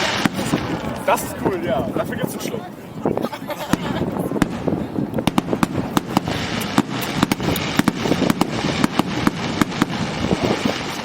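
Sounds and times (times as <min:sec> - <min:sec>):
fireworks cracks and bangs: 0:00.0 - 0:02.5, 0:03.6 - 0:11.0
fireworks crackling: 0:00.0 - 0:11.0.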